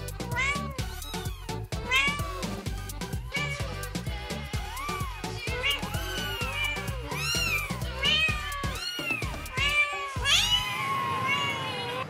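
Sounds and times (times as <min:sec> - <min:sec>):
background music with steady beat: 0:00.0 - 0:10.4
kittens mewing: 0:00.0 - 0:12.0.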